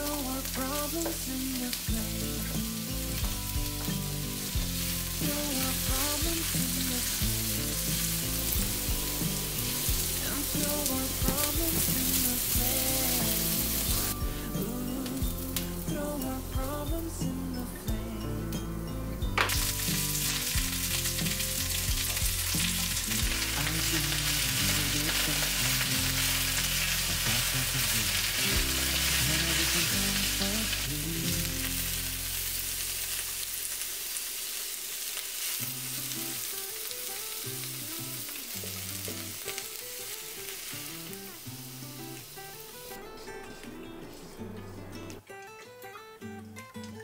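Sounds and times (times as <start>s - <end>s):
vegetables sizzling in hot oil: 0.0s - 18.6s, 19.2s - 44.0s.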